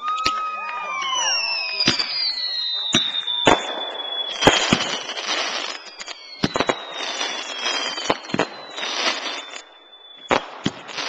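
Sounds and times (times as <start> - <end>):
falling whistles: 0.0 - 11.0
fireworks bangs: 0.0 - 11.0
fireworks crackling: 0.0 - 11.0.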